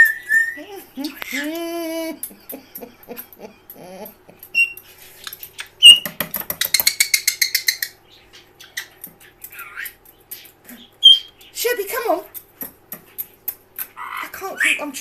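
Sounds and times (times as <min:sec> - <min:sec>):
parrot chirping and chattering: 0:00.0 - 0:02.6, 0:04.4 - 0:15.0.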